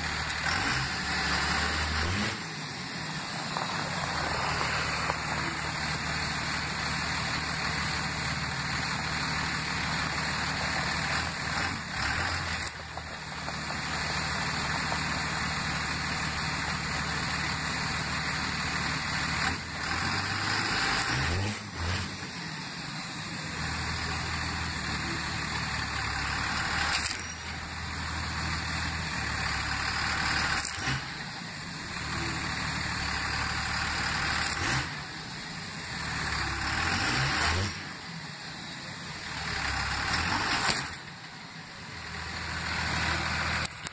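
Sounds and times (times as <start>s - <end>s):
diesel truck engine revving: 0.0s - 43.9s.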